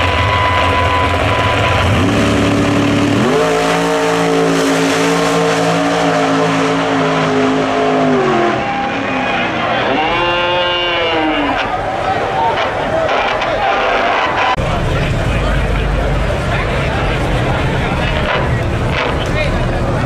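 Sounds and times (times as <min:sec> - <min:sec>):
drag racing engine revving: 0:00.0 - 0:20.0.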